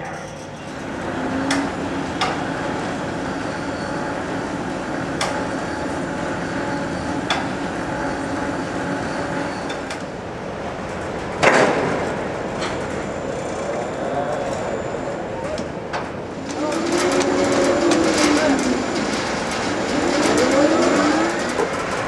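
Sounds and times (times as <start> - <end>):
winches and deck machinery running: 0.0 - 22.0.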